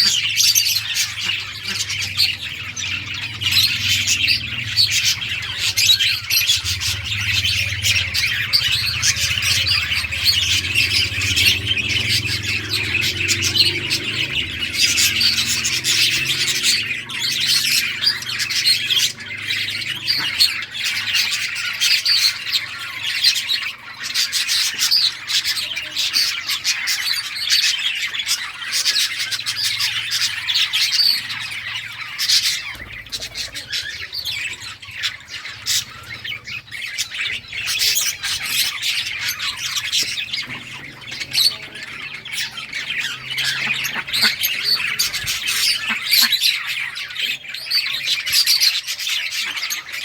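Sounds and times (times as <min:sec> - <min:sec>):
budgerigars chattering: 0:00.0 - 0:50.0.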